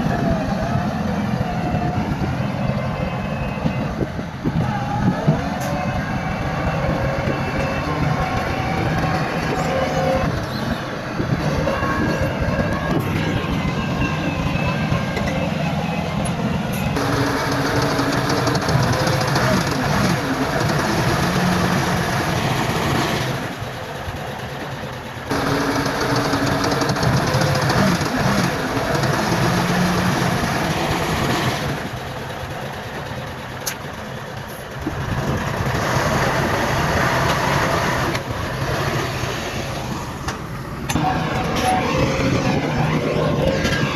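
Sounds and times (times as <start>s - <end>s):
bulldozer diesel engine: 0.0s - 43.9s.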